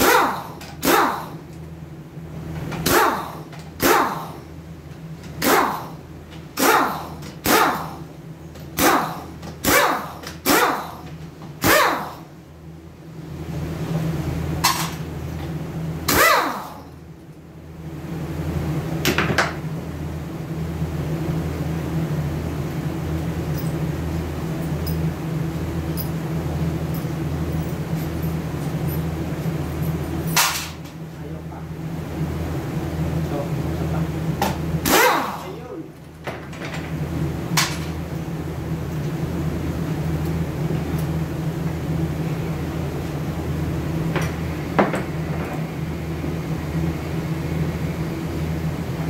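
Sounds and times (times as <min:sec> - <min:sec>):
steady machine hum: 0:00.0 - 0:49.0.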